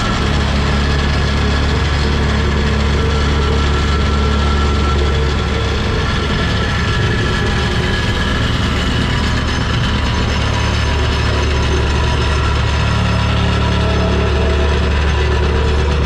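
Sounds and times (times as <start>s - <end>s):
diesel engine running: 0.0s - 16.0s
hydraulic whines: 0.0s - 16.0s.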